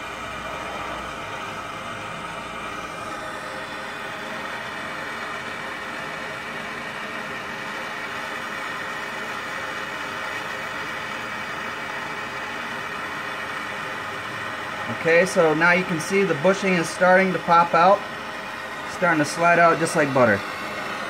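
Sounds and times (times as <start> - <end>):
propane torch hissing: 0.0 - 21.0.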